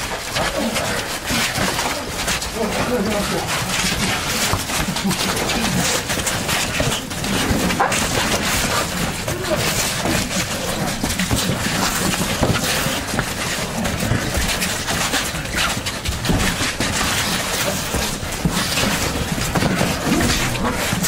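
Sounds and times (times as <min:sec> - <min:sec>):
people scuffling: 0:00.0 - 0:21.0.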